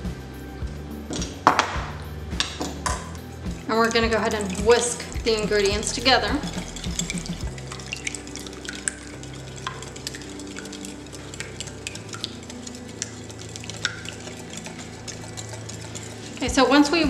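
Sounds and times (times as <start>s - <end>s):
whisk clicking on glass bowl: 2.4s - 17.0s.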